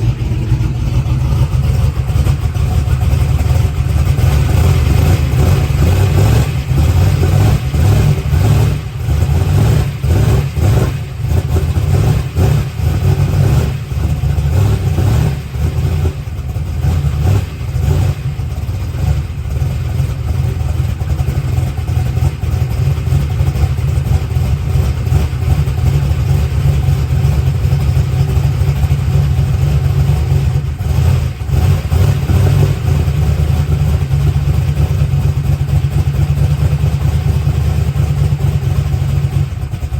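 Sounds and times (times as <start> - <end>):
drag-race engine idling: 0.0 - 39.9.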